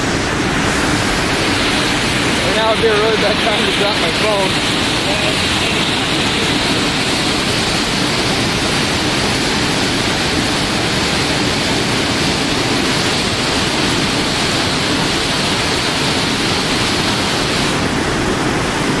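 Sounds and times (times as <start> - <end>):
rush of foaming water: 0.0 - 19.0.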